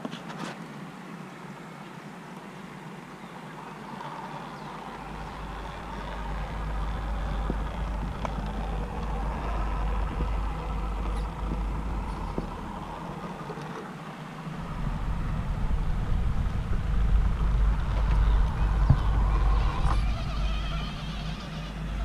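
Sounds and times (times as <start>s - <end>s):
faint electric motor whine: 0.0s - 22.0s
wind rumble on microphone: 4.4s - 22.0s.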